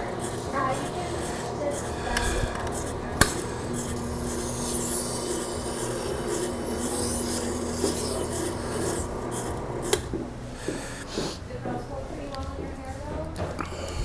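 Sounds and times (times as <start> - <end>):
blade rubbing on sharpener: 0.0 - 11.4
faint motor hum: 0.0 - 14.0.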